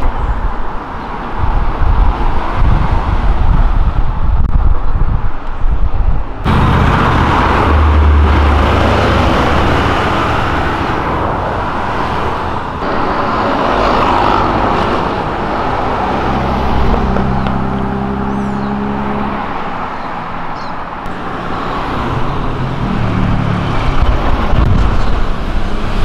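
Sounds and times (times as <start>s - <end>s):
car engines: 0.0s - 26.0s
tyre and road noise: 0.0s - 26.0s.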